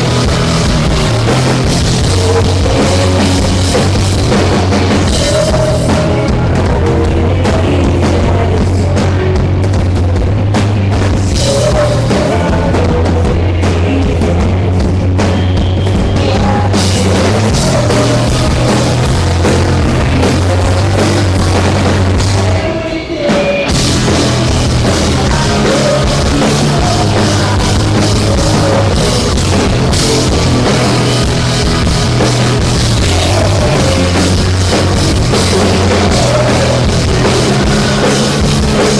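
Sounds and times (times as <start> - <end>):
drum kit: 0.0 - 38.9
rock band playing loudly: 0.0 - 38.9.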